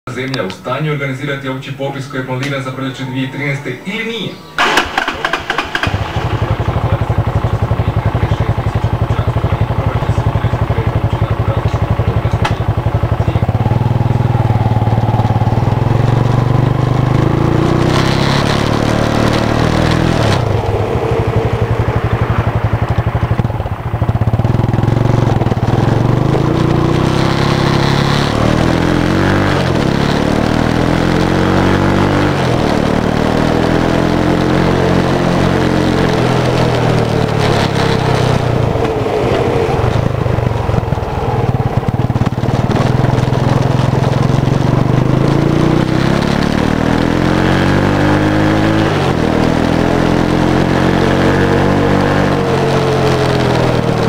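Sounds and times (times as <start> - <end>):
quad engine revving: 4.3 - 54.0.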